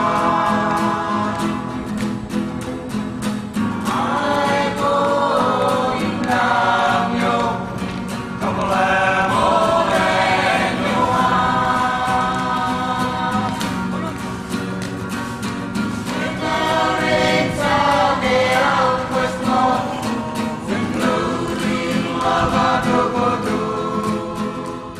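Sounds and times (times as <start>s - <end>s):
group of voices singing: 0.0s - 2.5s, 3.6s - 14.2s, 15.7s - 24.9s.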